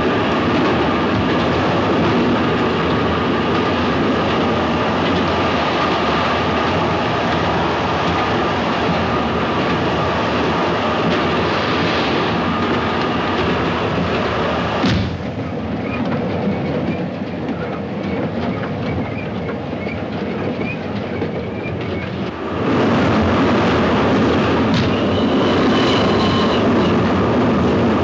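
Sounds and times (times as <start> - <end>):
passenger train rattling rumble: 0.0 - 28.0.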